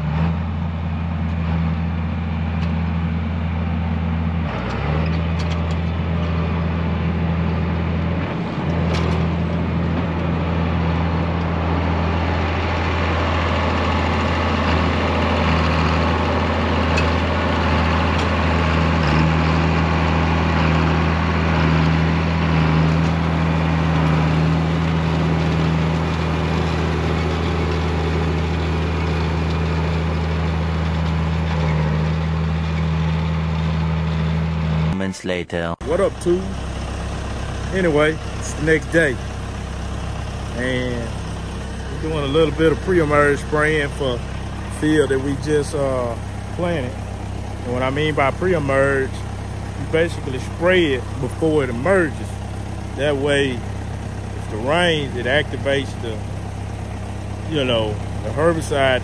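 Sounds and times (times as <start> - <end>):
tractor diesel engine humming: 0.0 - 35.0, 35.8 - 59.0.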